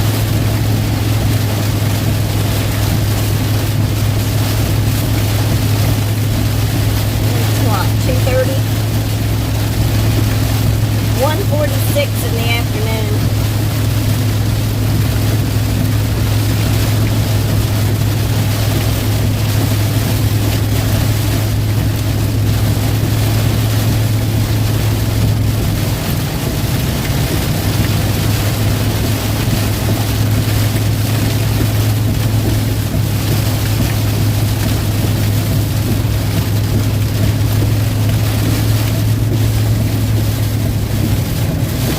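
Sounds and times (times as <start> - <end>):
engine and road hum: 0.0 - 41.9
rain and wind noise: 0.0 - 41.9.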